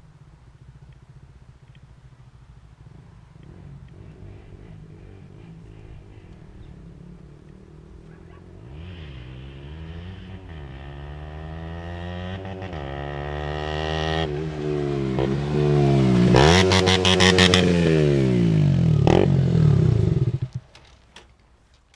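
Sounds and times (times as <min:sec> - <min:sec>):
exhaust crackling: 0:00.0 - 0:21.9
motorcycle engine revving: 0:00.6 - 0:20.8.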